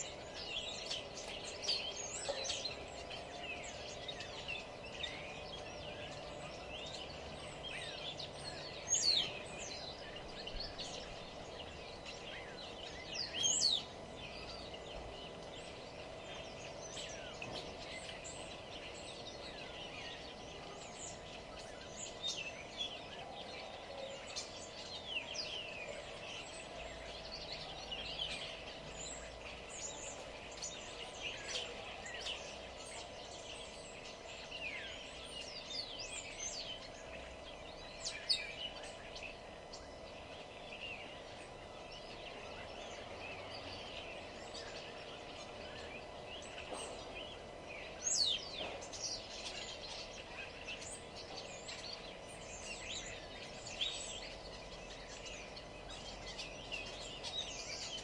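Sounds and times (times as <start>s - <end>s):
faint steady hum: 0.0s - 58.0s
small birds chirping and singing: 0.0s - 58.0s.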